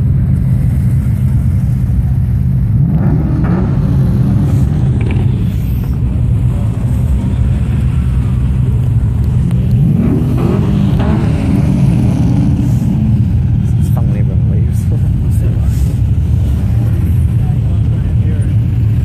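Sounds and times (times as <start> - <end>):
car engines rumbling: 0.0 - 19.0.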